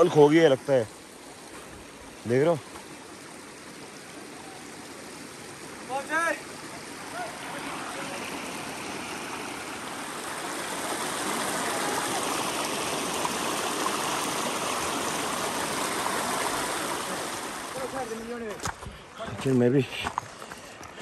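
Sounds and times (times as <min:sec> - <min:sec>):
running water: 0:00.0 - 0:21.0.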